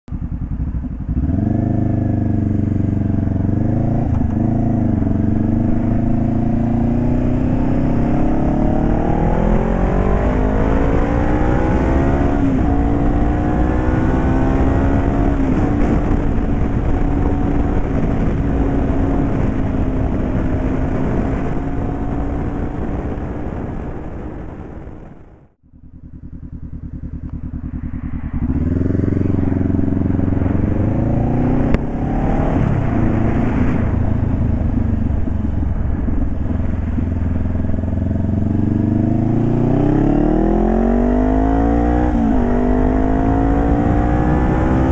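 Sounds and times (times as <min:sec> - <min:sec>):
motorcycle engine running: 0:00.1 - 0:44.9.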